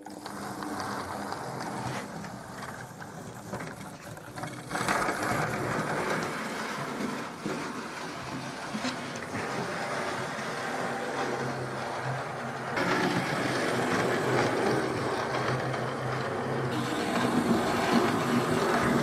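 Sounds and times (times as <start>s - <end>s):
model train motor whirring: 0.0s - 19.0s.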